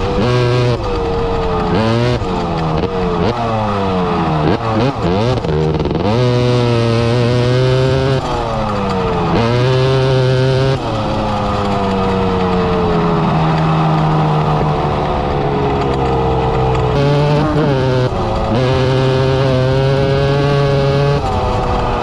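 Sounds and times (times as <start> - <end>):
quad engine running: 0.0 - 22.0.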